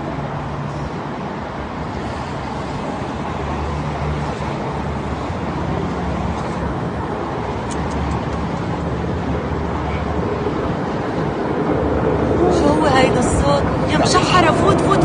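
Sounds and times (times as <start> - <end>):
low even drone: 0.0 - 15.0.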